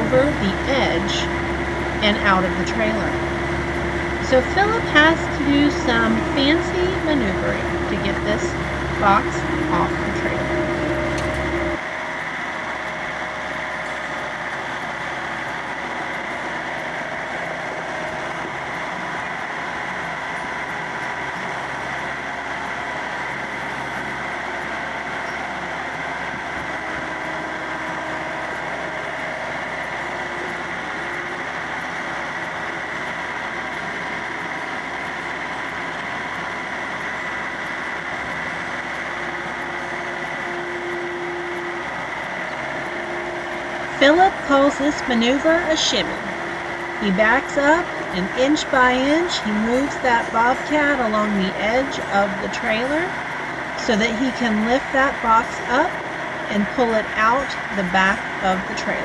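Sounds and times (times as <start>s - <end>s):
diesel engine running: 0.0s - 59.0s
faint high whine: 0.0s - 59.0s.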